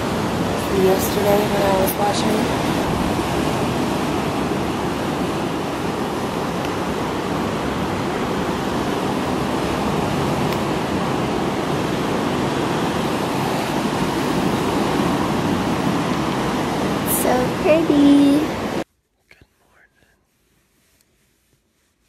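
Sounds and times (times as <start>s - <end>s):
ocean surf breaking: 0.0s - 18.8s
wind: 0.0s - 22.0s.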